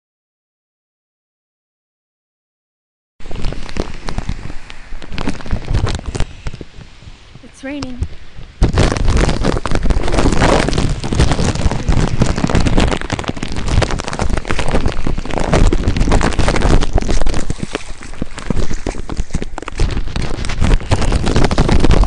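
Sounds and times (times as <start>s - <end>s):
heavy rain pattering: 3.2s - 22.0s
wind buffeting microphone: 3.2s - 22.0s.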